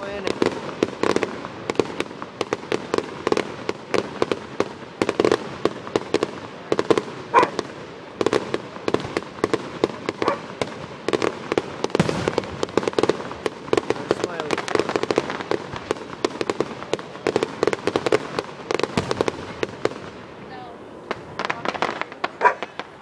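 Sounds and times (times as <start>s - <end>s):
loud firework bang: 0.0s - 20.2s
fireworks pops and crackles: 0.0s - 23.0s.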